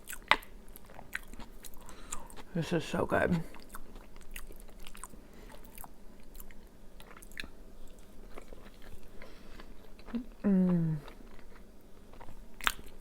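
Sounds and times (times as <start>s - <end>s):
person chewing food: 0.0s - 2.6s, 3.4s - 13.0s.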